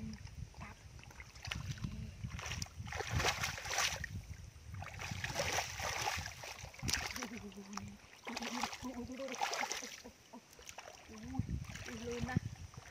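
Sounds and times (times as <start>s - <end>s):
steady low rumble: 0.0s - 9.2s, 11.2s - 12.9s
splashing in shallow muddy water: 0.0s - 12.9s.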